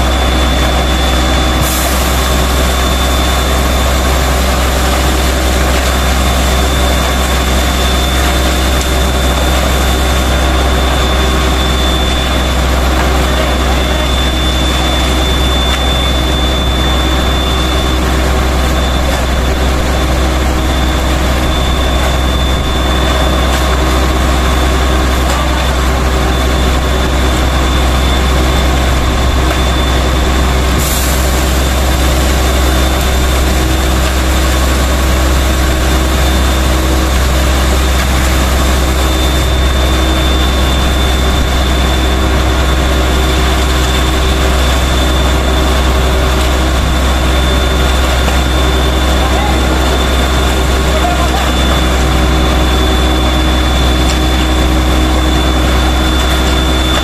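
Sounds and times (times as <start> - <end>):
concrete pouring down chute: 0.0 - 57.0
diesel engine running: 0.0 - 57.0.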